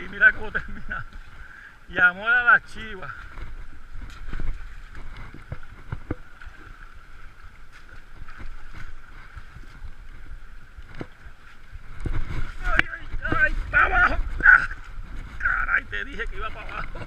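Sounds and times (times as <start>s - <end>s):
river water running: 0.0s - 17.0s
wind on microphone: 3.0s - 17.0s.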